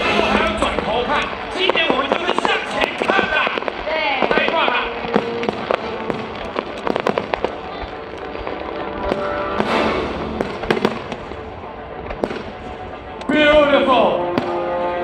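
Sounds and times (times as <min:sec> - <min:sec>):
fireworks bangs: 0:00.0 - 0:13.7, 0:14.3 - 0:15.0.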